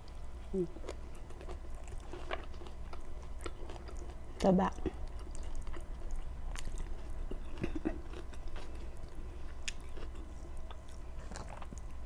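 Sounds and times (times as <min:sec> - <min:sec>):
close chewing of food: 0:00.0 - 0:12.0.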